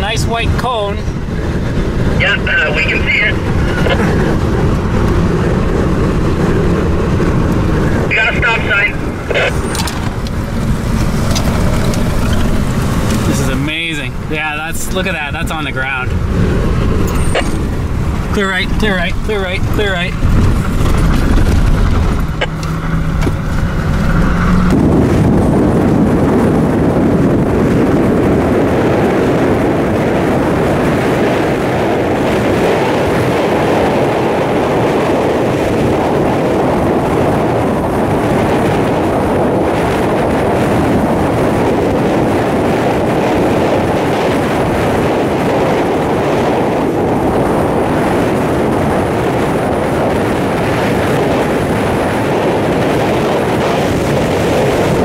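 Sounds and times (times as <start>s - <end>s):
road noise: 0.0s - 55.0s
wind rushing over microphone: 0.0s - 55.0s
car engine accelerating: 0.3s - 55.0s.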